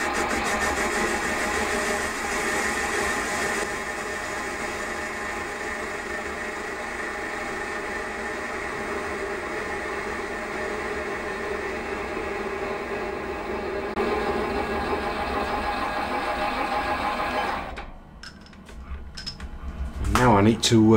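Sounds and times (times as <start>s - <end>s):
metal lathe whirring: 0.0s - 19.4s.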